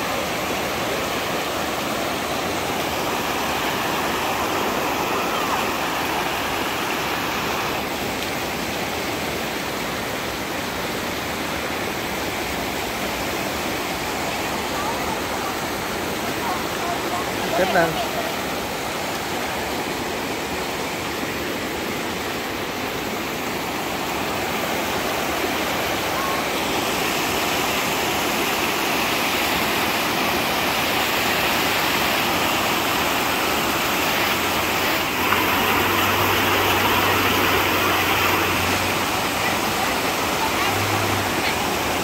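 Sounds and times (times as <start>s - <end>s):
water rushing over rapids: 0.0s - 42.0s.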